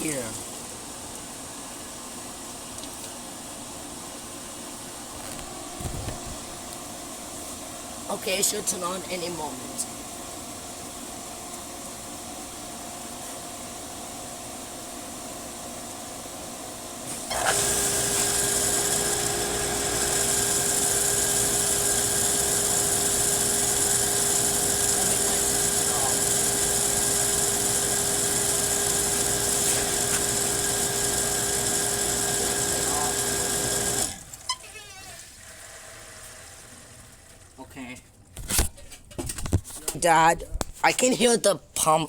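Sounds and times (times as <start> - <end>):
pool pump motor humming: 0.0 - 37.6.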